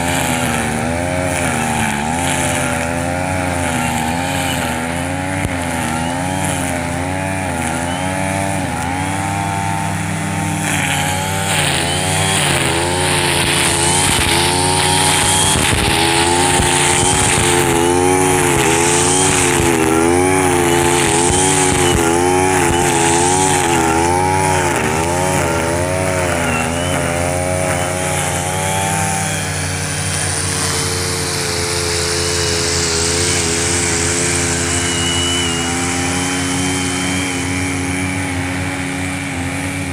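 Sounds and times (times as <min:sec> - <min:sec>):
brush cutter engine: 0:00.0 - 0:39.9
grass being cut crackling: 0:00.0 - 0:39.9
other brush cutters running: 0:00.0 - 0:39.9.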